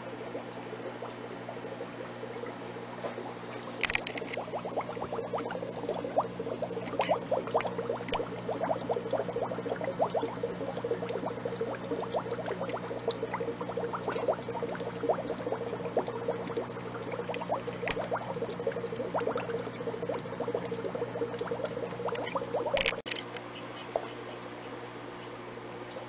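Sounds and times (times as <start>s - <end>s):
aquarium water bubbling: 0.0s - 26.0s
steady low hum: 0.0s - 26.0s.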